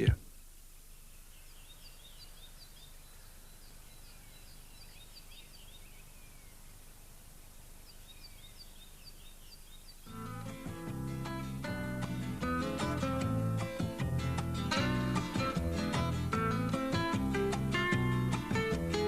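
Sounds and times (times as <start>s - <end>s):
faint birdsong chirps: 0.0s - 19.0s
low background noise: 0.0s - 19.0s.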